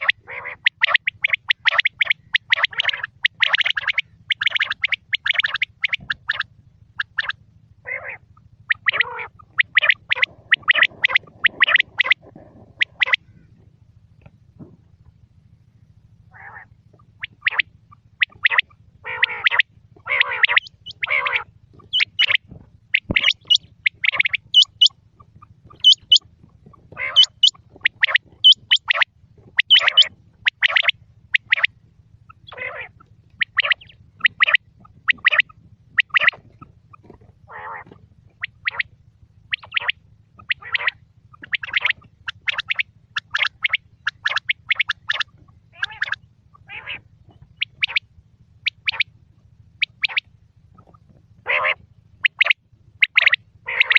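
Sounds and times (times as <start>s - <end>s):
quail calling: 0.0s - 15.2s, 16.3s - 53.9s
faint low hum: 0.0s - 53.9s.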